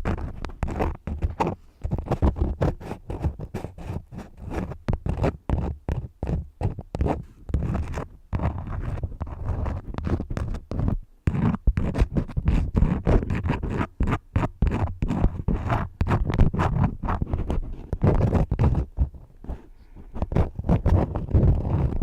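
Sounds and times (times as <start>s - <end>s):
crayons scratching on paper: 0.0s - 22.0s.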